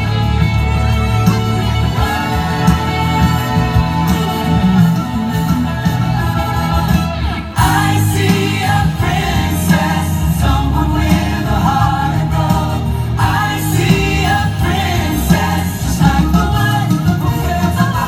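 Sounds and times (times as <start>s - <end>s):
show music: 0.0s - 18.0s
choir singing: 1.7s - 18.0s.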